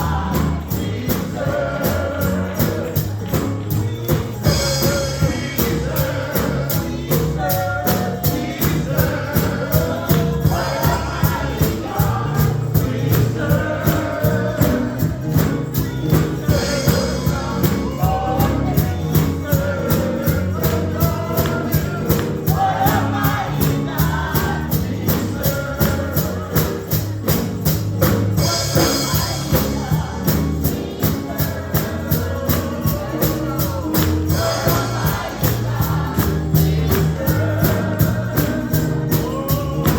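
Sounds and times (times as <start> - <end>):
bass line: 0.0 - 39.9
gospel singing: 0.0 - 39.9
quick percussion beat: 0.0 - 39.9.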